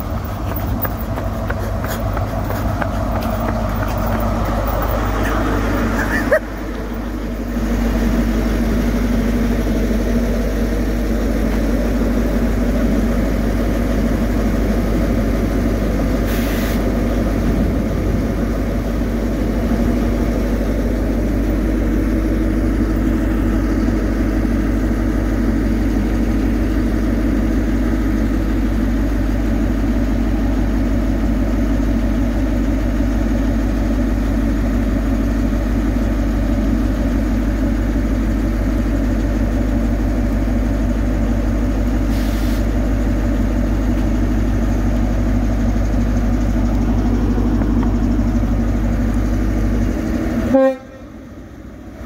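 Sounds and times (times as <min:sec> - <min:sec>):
diesel train engine idling: 0:00.0 - 0:52.0.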